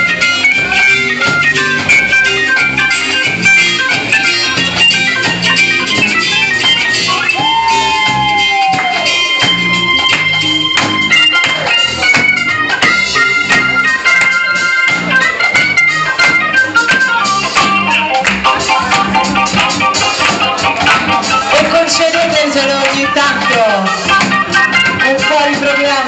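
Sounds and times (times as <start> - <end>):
organ-toned keyboard: 0.0 - 26.0
drum hits: 0.6 - 25.9.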